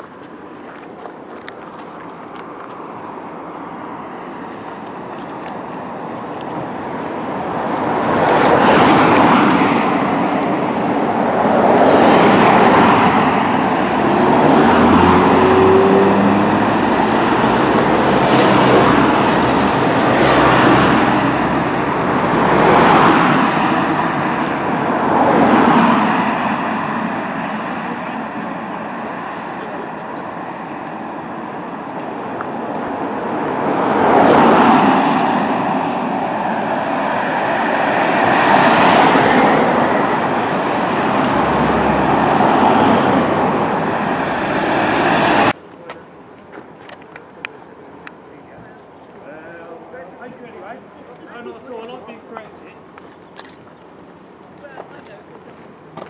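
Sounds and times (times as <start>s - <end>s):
cars passing on asphalt: 0.0s - 56.0s.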